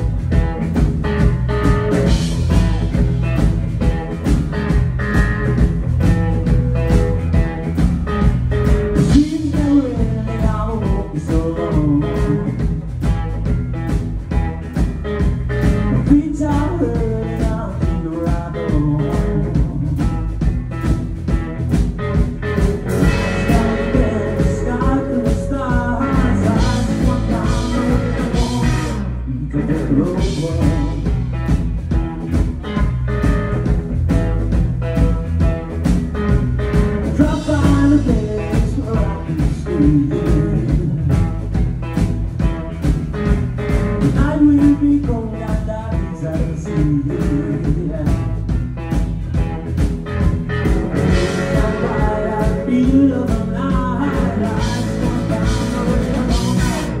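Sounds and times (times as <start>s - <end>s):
steady drum beat: 0.0s - 29.1s, 29.8s - 57.0s
electric guitars: 0.0s - 57.0s.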